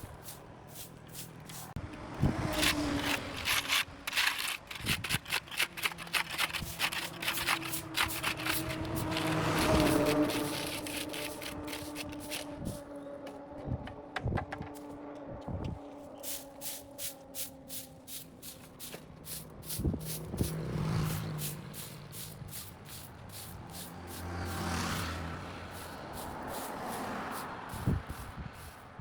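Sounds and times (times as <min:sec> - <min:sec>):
vehicle passing on road: 0:00.0 - 0:29.0.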